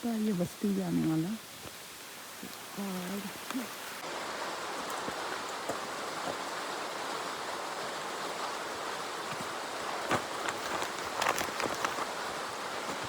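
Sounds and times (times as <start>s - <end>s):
steady rushing outdoor noise: 1.5s - 13.0s.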